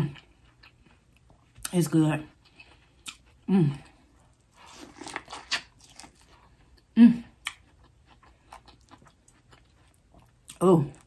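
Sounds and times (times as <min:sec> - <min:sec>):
chewing with wet clicks: 0:00.0 - 0:11.0.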